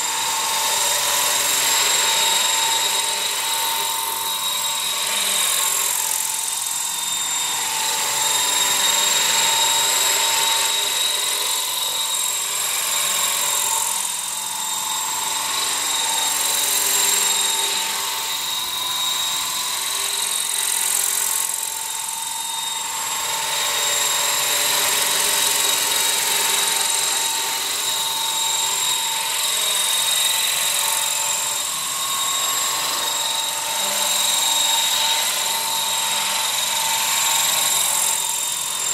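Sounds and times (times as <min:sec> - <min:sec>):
model helicopter whine: 0:00.0 - 0:38.9.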